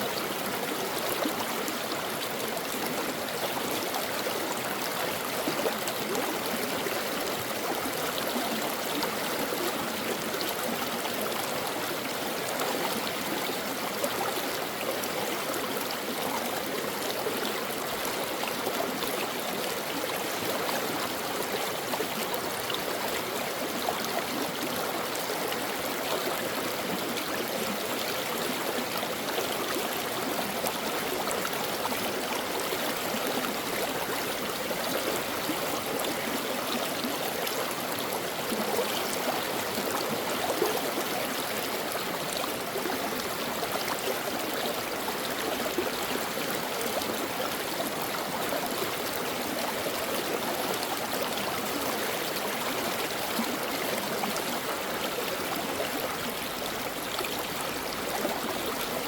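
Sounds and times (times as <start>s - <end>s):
stream water flowing over rocks: 0.0s - 59.0s.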